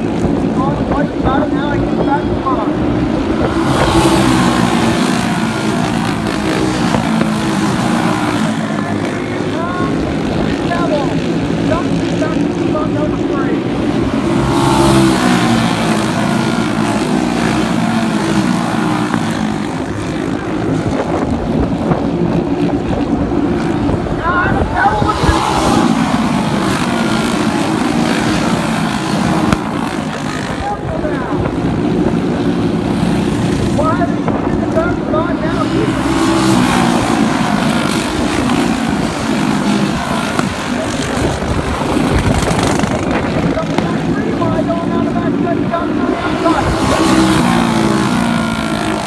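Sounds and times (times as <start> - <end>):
racing kart engines at high revs: 0.0 - 49.0.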